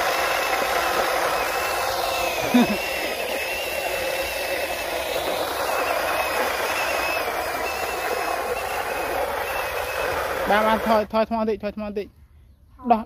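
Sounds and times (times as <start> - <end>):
electric motor and gears running: 0.0 - 11.1
thin high whine: 0.0 - 11.1.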